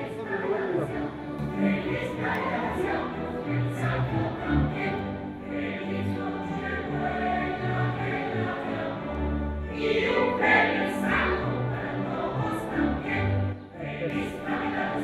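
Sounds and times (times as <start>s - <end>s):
choir singing: 0.0s - 15.0s
orchestra playing: 0.0s - 15.0s.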